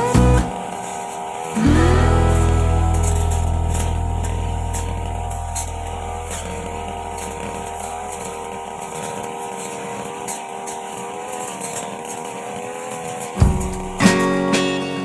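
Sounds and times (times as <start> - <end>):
brush cutter engine running: 0.0 - 15.0.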